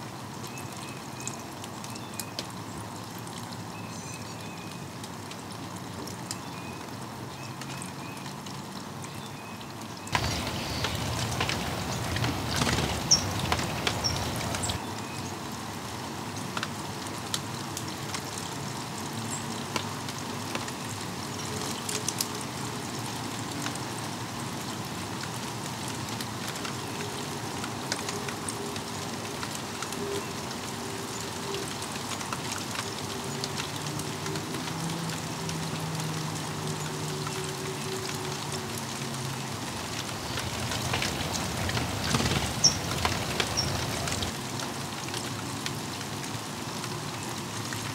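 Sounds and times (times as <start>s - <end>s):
rain on foliage: 0.0s - 47.9s.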